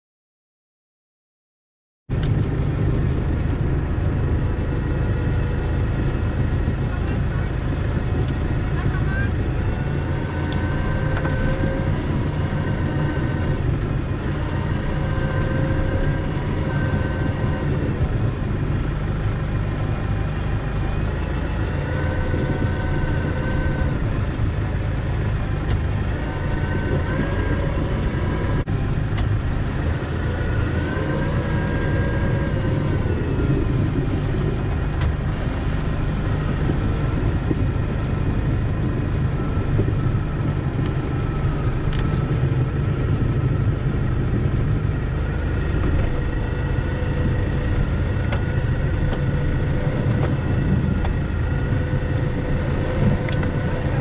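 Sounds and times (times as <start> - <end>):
high whine: 2.1 - 54.0
snowplow engine rumbling: 2.1 - 54.0.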